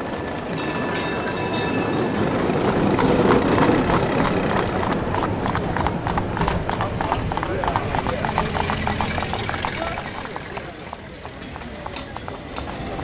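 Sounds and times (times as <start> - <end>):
streetcar rumbling on rails: 0.0 - 13.0
horse hooves clip-clopping: 2.0 - 13.0.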